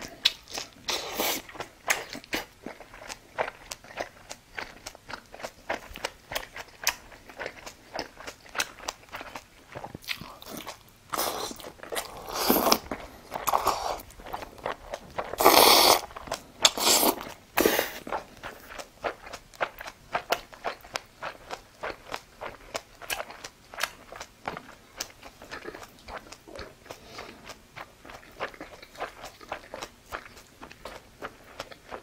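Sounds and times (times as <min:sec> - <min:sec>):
chewing with small clicks: 0:00.0 - 0:15.4, 0:18.0 - 0:32.0.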